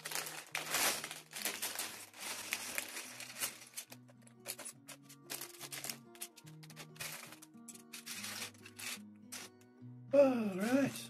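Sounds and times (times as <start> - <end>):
plastic bag crinkling: 0.0 - 9.5
background music with held notes: 0.0 - 11.0.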